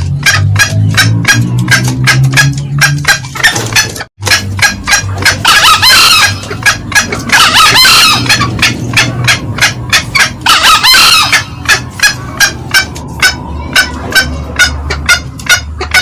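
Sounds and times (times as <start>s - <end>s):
junglefowl cackling clucks: 0.0s - 16.0s.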